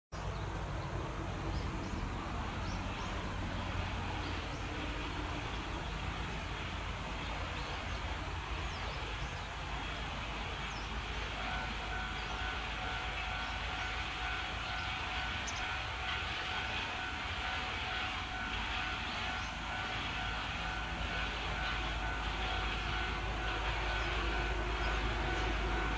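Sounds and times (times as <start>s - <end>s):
thin steady whine: 0.2s - 25.9s.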